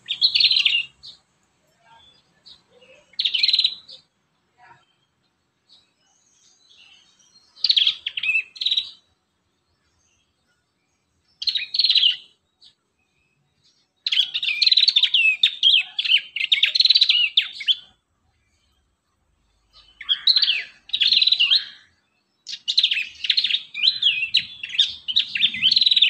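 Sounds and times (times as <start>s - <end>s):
bird singing rapid chattering notes: 0.0s - 4.2s, 4.8s - 18.8s, 19.6s - 26.0s.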